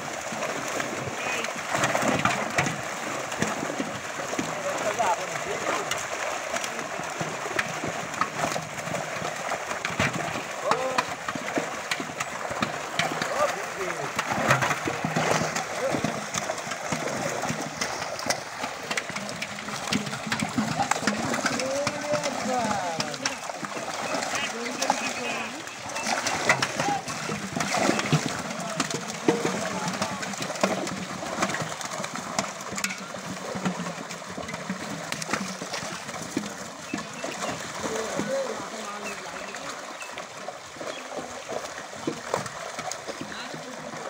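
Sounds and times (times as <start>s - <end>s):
fish thrashing in shallow water: 0.0s - 44.0s.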